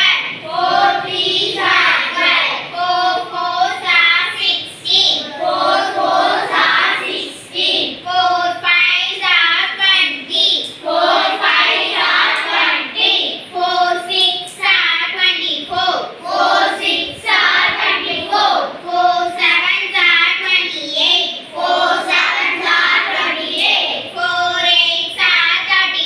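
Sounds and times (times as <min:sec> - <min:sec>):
children chanting together: 0:00.0 - 0:26.0.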